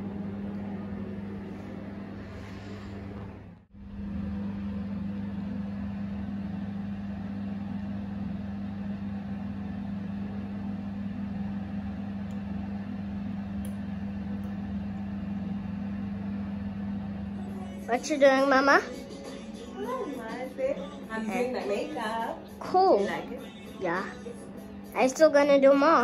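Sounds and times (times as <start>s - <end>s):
steady motor hum: 0.0s - 26.0s.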